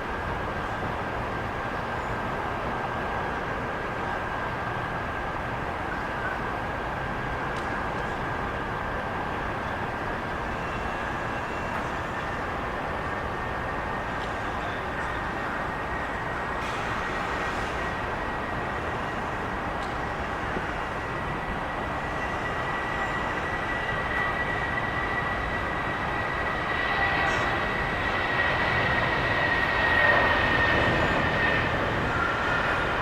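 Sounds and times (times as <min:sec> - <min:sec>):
jet airliner engines running: 0:00.0 - 0:33.0.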